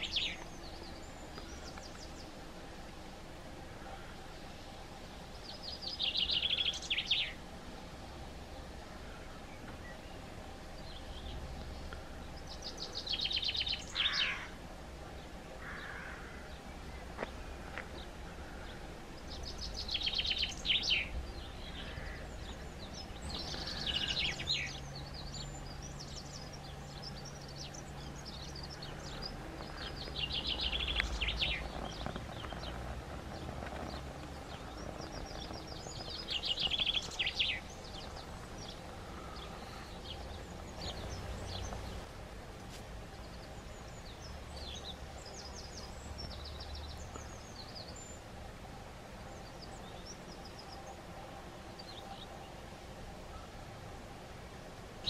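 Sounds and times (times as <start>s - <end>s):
low background rumble: 0.0s - 55.0s
songbirds singing: 0.0s - 55.0s.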